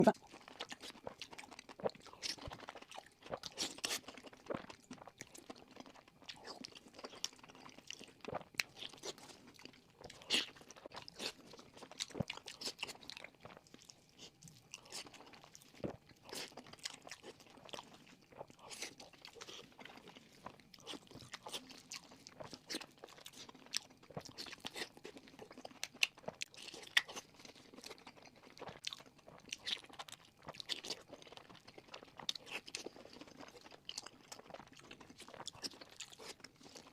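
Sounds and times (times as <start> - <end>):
person chewing crunchy food: 0.0 - 36.9.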